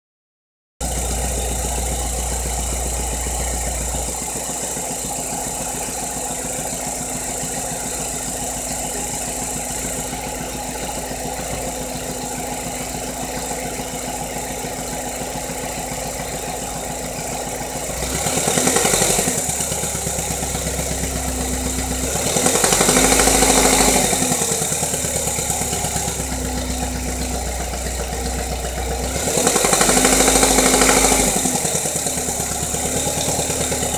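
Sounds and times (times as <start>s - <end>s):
car engine idling with knock: 0.8s - 33.9s
car engine revving: 0.8s - 33.9s.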